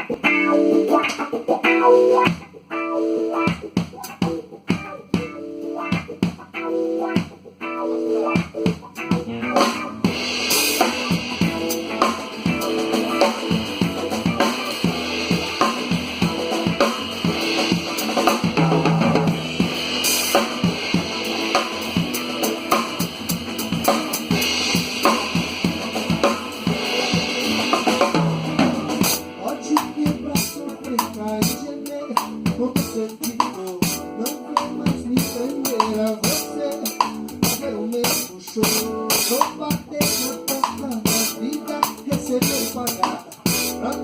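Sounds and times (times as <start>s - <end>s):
bass guitar: 0.0s - 44.0s
drum kit beat: 0.0s - 44.0s
guitar: 0.0s - 44.0s.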